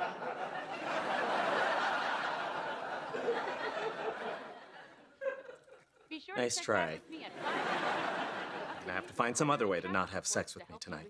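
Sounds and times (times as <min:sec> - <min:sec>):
studio audience laughing: 0:00.0 - 0:09.8.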